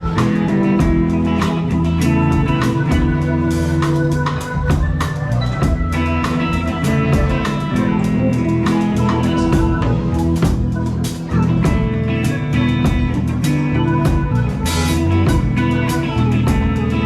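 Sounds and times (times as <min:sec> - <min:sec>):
drum kit steady beat: 0:00.0 - 0:17.0
guitar: 0:00.0 - 0:17.0.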